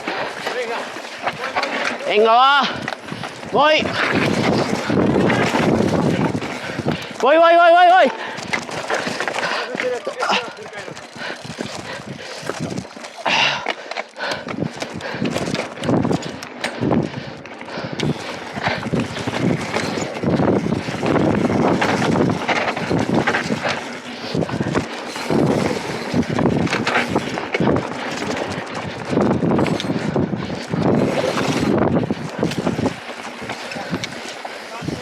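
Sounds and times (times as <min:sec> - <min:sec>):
bike rattling over bumps: 0:00.0 - 0:35.0
wind buffeting microphone: 0:02.6 - 0:07.2, 0:08.1 - 0:13.6, 0:14.2 - 0:35.0.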